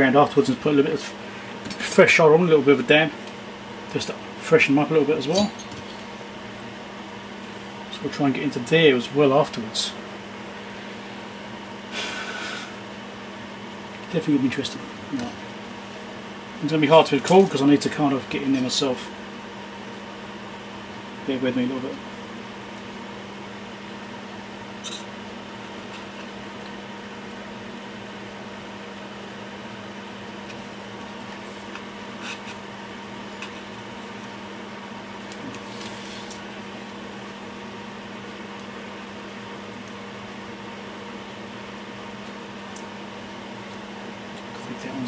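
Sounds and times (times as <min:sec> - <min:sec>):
electrical hum with fan hiss: 0:00.0 - 0:45.0.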